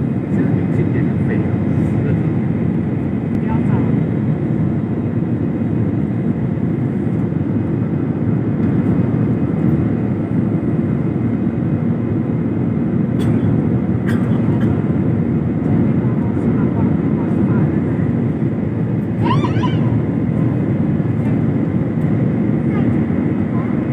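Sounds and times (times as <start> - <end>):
airplane low rumble: 0.0 - 23.9.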